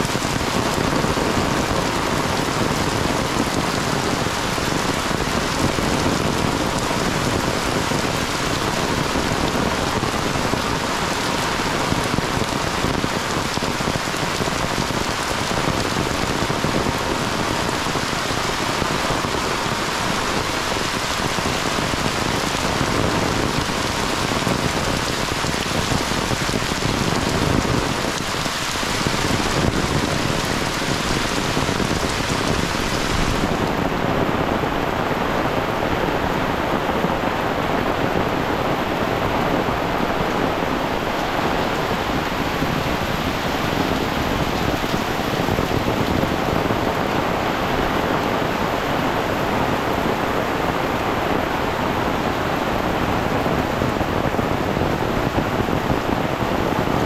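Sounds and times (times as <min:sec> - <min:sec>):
heavy rain pouring on pavement: 0:00.0 - 0:57.0.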